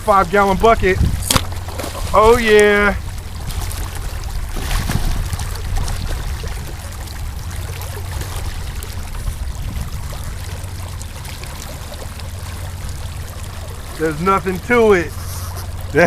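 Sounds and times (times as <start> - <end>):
steady low rumble: 0.0 - 16.0
water sloshing against boat: 0.0 - 16.0.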